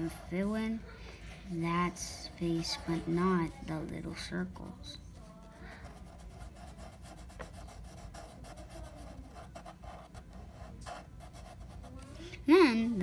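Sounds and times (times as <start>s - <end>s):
marker scribbling on paper: 0.0s - 12.2s.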